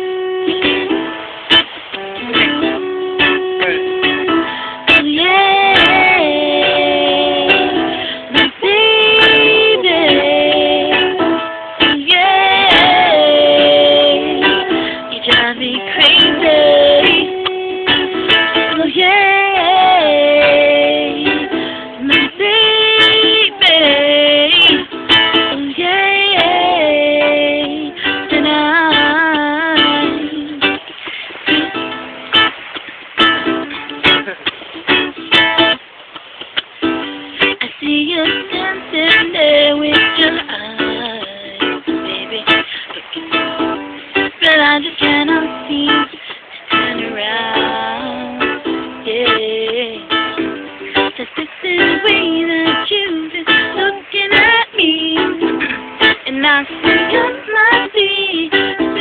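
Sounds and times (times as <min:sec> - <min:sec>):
sliding held melody notes: 0:00.0 - 0:59.0
strummed guitar: 0:00.0 - 0:59.0.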